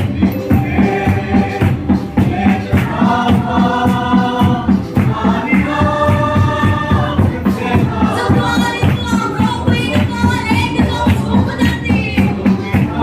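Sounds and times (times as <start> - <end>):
group singing a hymn: 0.0 - 13.0
quick drum beat: 0.0 - 13.0.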